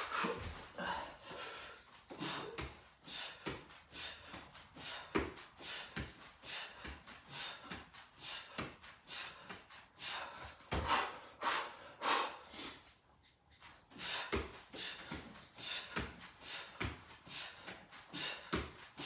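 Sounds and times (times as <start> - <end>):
man breathing hard in puffs: 0.0 - 19.0.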